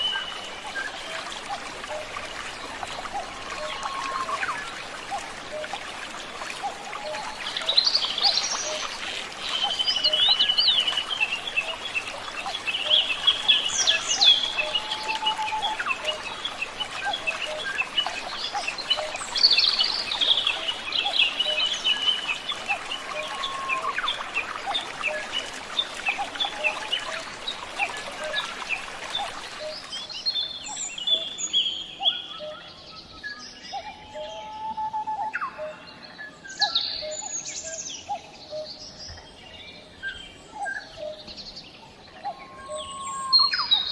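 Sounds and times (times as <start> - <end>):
birds singing and chirping: 0.0 - 43.9.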